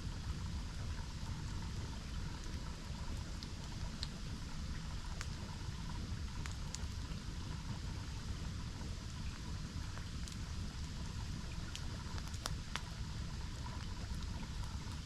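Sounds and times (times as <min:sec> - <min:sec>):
campfire crackles: 0:00.0 - 0:15.0.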